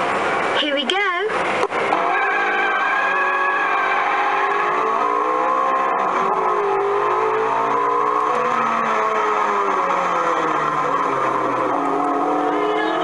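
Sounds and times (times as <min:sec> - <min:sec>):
recorded car engine revving: 0:01.3 - 0:13.0.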